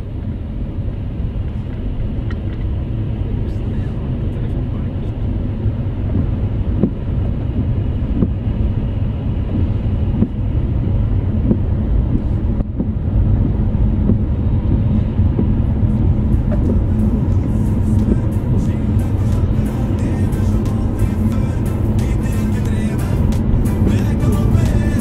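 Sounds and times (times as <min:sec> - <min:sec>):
car road and engine rumble: 0:00.0 - 0:25.0
windscreen wipers ticking: 0:03.7 - 0:25.0.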